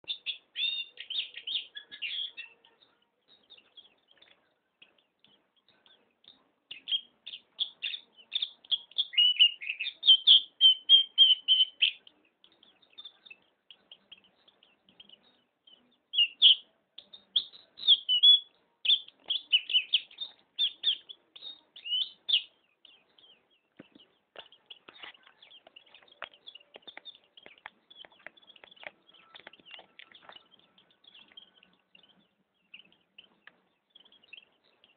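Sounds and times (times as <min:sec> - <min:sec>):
bird twittering chirps: 0:00.0 - 0:34.9.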